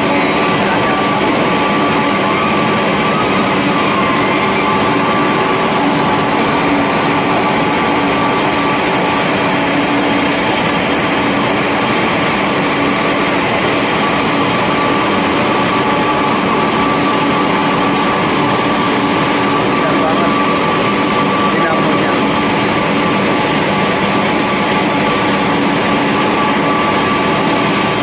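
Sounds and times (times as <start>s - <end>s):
high motor whine: 0.0s - 28.0s
industrial machinery drone: 0.0s - 28.0s.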